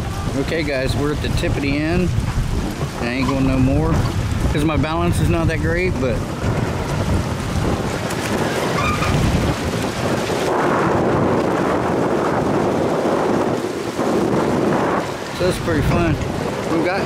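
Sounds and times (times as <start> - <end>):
waves sloshing against dock: 0.0 - 17.0
wind rumbling on microphone: 0.0 - 17.0.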